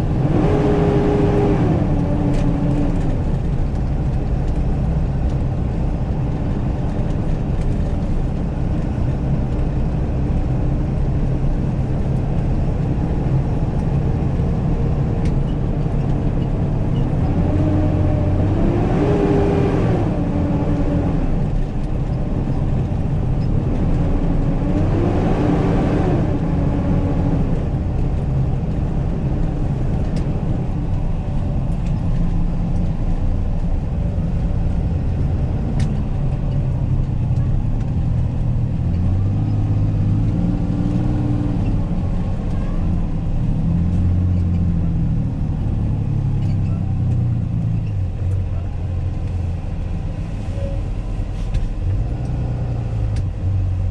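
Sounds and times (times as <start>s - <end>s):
road noise: 0.0s - 53.9s
truck engine drone: 0.0s - 53.9s.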